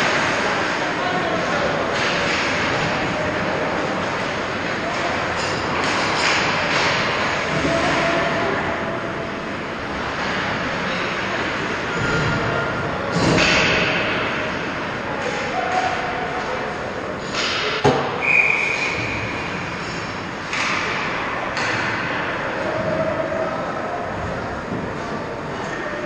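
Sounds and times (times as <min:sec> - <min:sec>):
hall background noise: 0:00.0 - 0:26.0.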